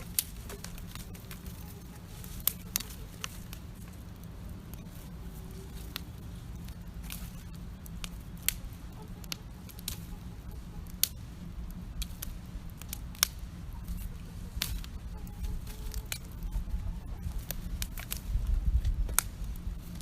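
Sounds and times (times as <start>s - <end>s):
campfire crackling and popping: 0.0s - 20.0s
low steady rumble: 0.0s - 20.0s.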